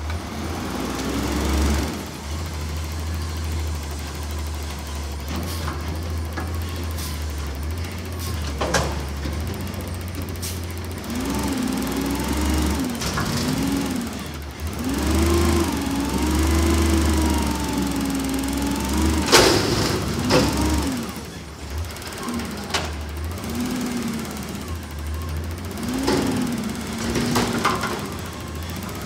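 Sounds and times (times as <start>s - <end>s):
garbage truck engine revving: 0.0s - 29.0s.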